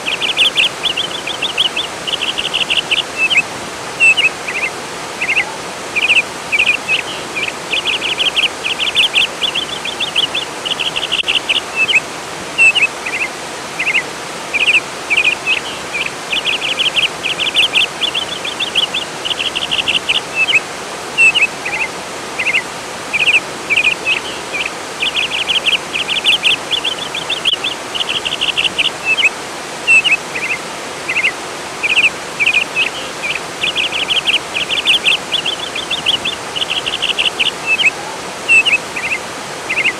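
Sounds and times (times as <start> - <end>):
songbird trilled chirps: 0.0 - 3.4, 4.0 - 12.0, 12.6 - 20.6, 21.2 - 29.3, 29.9 - 39.9
flowing water rushing: 0.0 - 39.9.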